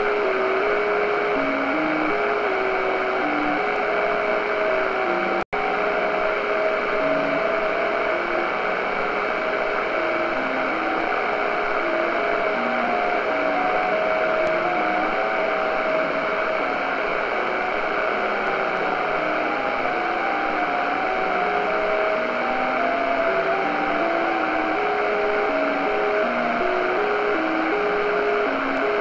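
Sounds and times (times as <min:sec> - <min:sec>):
radio band hiss: 0:00.0 - 0:29.0.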